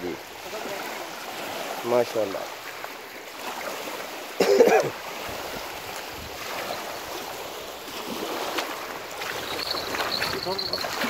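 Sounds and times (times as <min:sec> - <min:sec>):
waves lapping on shore: 0:00.0 - 0:11.0.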